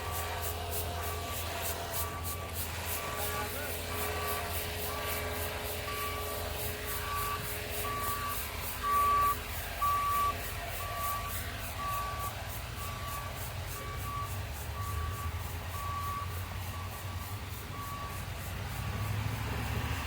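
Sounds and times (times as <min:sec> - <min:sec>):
low engine rumble: 0:00.0 - 0:20.0
reversing alarm beeping: 0:00.0 - 0:20.0.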